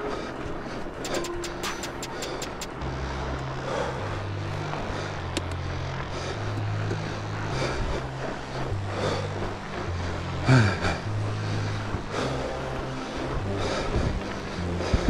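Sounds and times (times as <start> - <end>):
fat bike tyres rumbling on snow: 0.0 - 1.1, 2.1 - 15.0.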